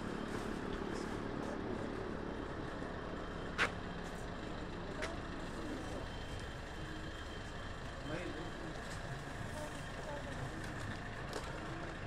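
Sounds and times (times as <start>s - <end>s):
road and vehicle noise: 0.0s - 12.0s.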